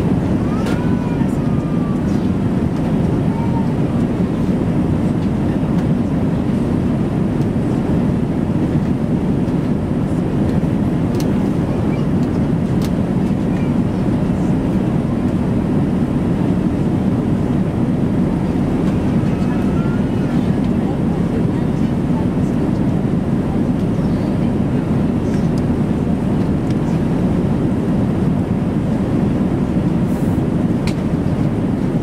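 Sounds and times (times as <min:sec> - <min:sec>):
aircraft cabin rumble: 0:00.0 - 0:32.0.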